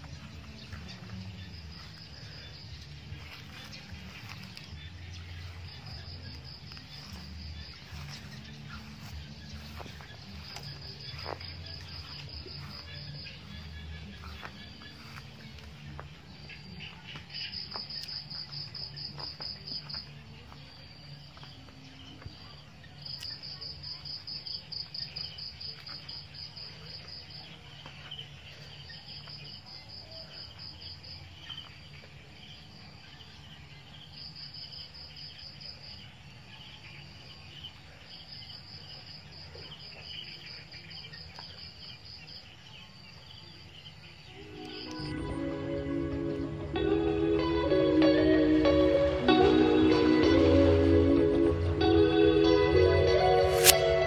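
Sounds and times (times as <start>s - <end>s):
crickets chirping in trills: 0.0s - 54.0s.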